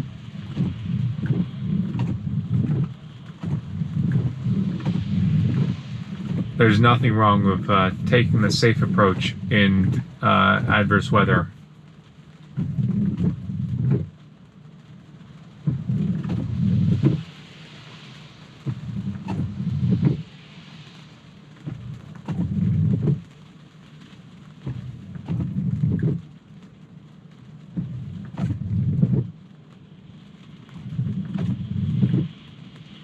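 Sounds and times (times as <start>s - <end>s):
wipers sweeping wet glass: 0.0s - 11.6s, 12.4s - 14.2s, 14.8s - 26.5s, 27.3s - 33.0s
rain patter: 0.0s - 33.0s.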